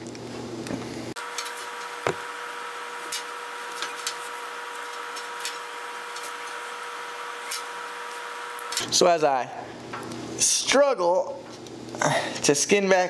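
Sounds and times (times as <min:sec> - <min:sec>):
steady hum: 0:00.0 - 0:12.9.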